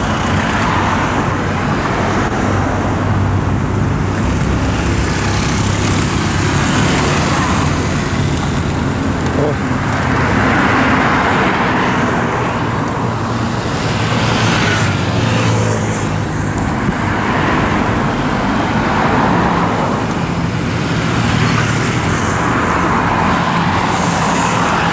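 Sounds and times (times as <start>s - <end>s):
vehicles passing on highway: 0.0s - 24.9s.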